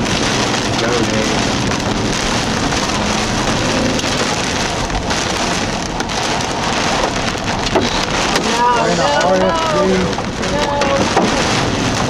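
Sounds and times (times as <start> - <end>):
heavy rain on car windshield: 0.0 - 12.0
raindrops clicking on glass: 0.0 - 12.0.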